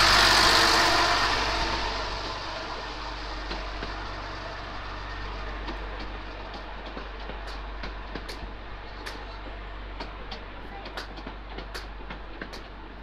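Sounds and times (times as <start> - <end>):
train coaches rumbling: 0.0 - 13.0
wheels clicking over rail joints: 0.0 - 13.0.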